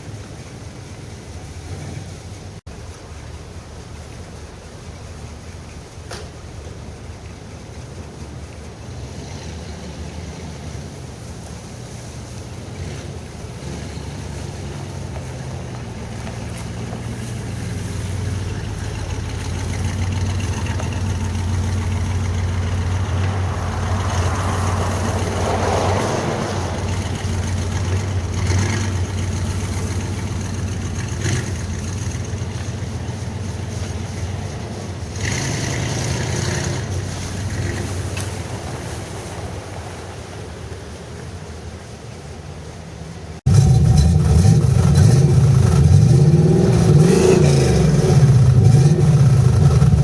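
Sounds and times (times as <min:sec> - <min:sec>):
vehicle engine running: 0:00.0 - 0:50.0.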